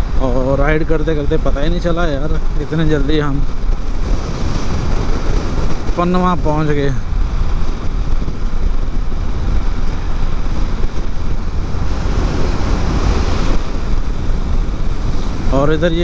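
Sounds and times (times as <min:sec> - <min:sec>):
motorcycle running: 0:00.0 - 0:16.0
wind buffeting microphone: 0:00.0 - 0:16.0.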